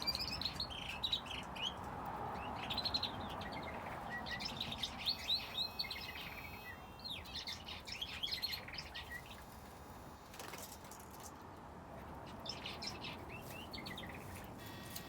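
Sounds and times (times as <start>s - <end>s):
small birds chirping: 0.0s - 10.3s, 12.0s - 15.0s.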